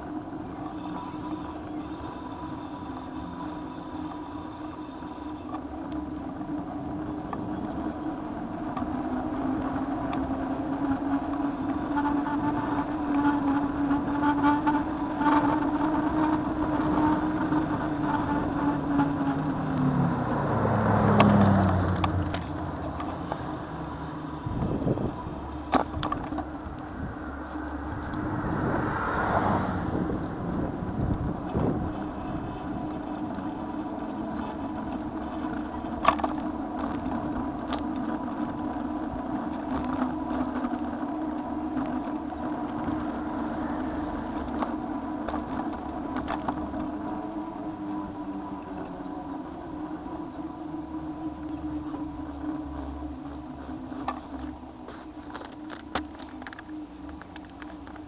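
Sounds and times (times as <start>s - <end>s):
bicycle tyre road noise: 0.0s - 58.0s.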